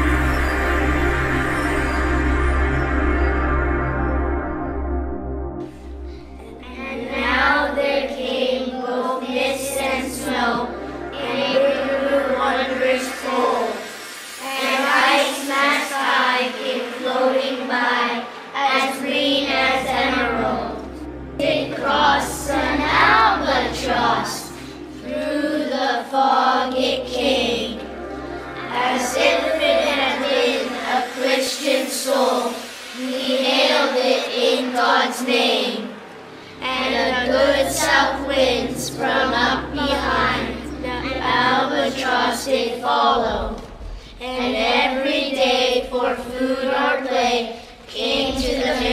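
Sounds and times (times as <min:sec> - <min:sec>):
children singing: 0:05.7 - 0:48.9.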